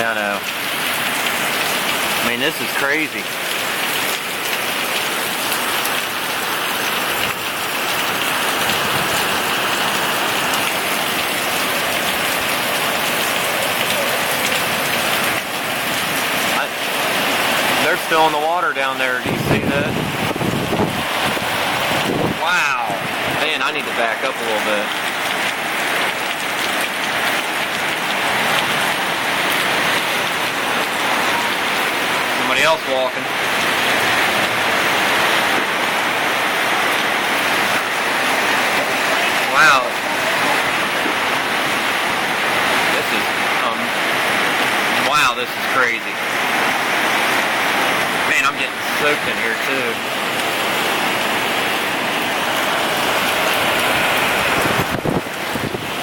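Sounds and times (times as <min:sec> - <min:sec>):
heavy wind-driven rain: 0:00.0 - 0:56.0.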